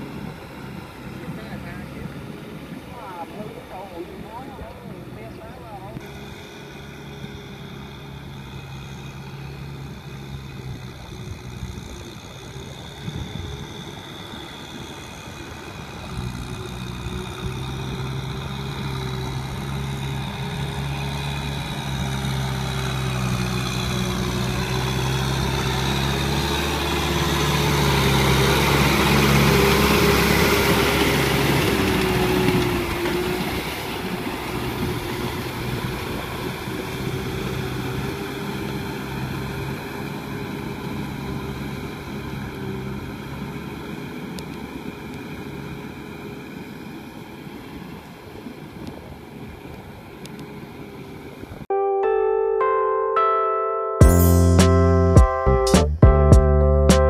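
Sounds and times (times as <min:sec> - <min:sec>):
tractor diesel engine running: 0:00.0 - 0:51.7.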